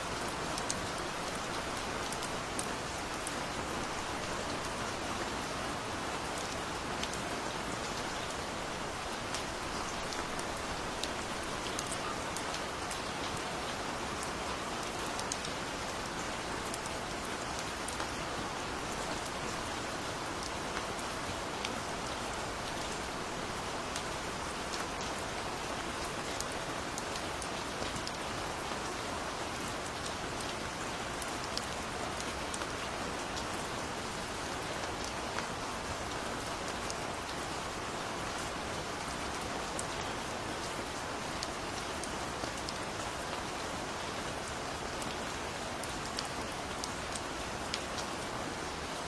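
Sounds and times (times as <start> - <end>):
gentle rain falling: 0.0 - 49.0.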